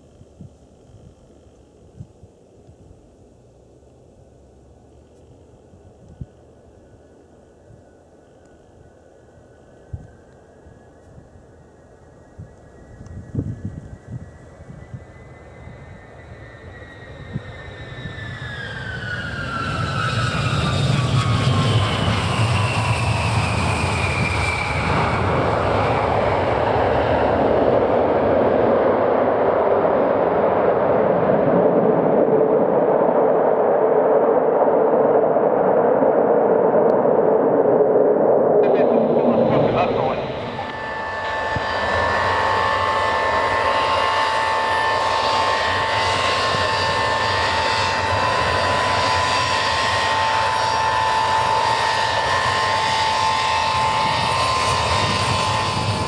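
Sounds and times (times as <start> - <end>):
jet engine high whine: 0.0 - 56.0
jet exhaust roar: 5.2 - 56.0.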